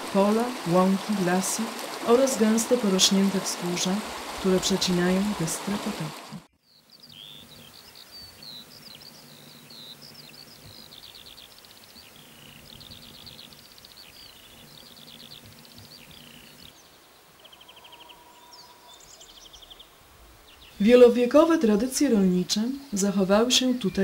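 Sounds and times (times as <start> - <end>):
songbirds chirping and singing: 0.0 - 24.0.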